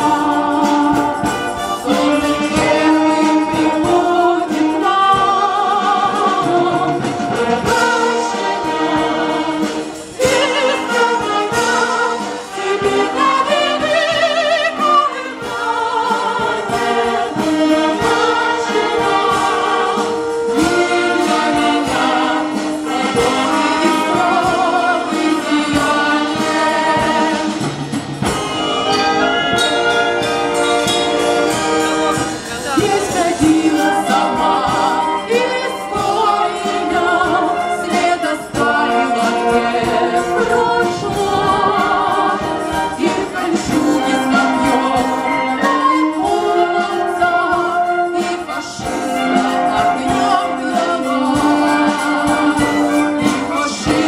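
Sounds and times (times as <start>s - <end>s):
wind band playing: 0.0s - 54.0s.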